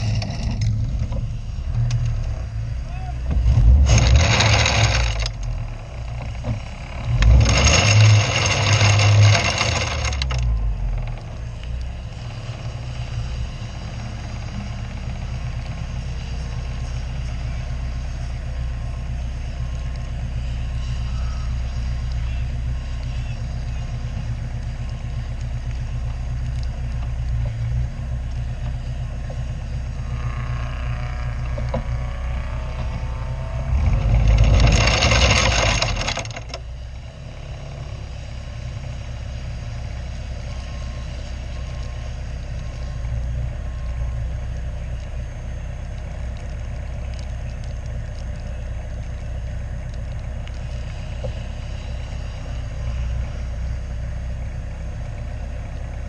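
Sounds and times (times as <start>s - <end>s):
race car engine running at low revs: 0.0s - 56.0s.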